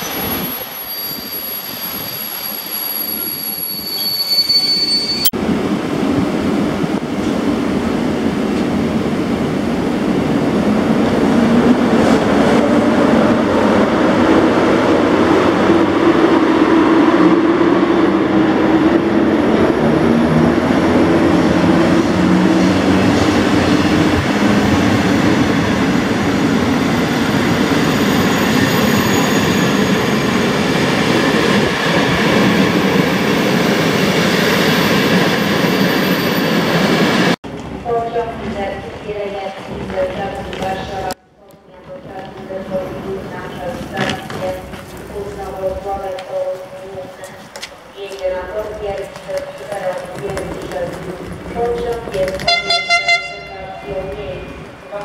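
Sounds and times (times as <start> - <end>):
train wheels rumbling on rails: 5.3 - 55.0.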